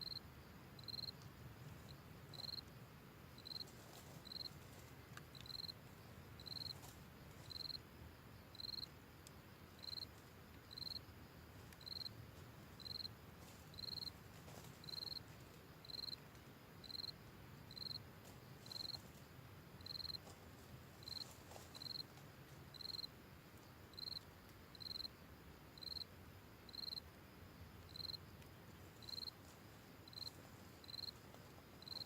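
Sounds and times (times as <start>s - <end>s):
insect chirping: 0.0s - 32.0s
low background hiss: 0.0s - 32.0s.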